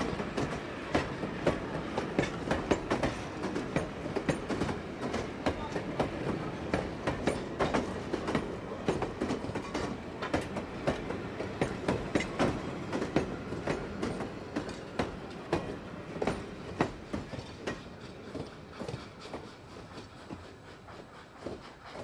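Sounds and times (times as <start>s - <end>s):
train rumble: 0.0s - 22.0s
train wheels clacking on rails: 0.0s - 22.0s.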